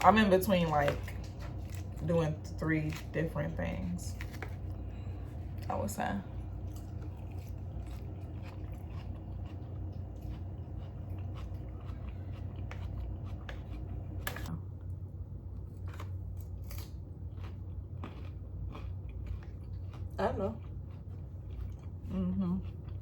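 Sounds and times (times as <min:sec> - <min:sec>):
chewing and crunching food: 0:00.0 - 0:23.0
steady low hum: 0:00.0 - 0:23.0.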